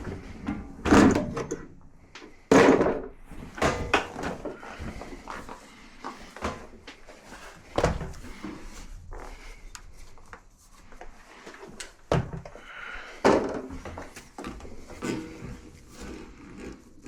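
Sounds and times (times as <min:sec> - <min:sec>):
rustling and scraping: 0:00.0 - 0:17.0.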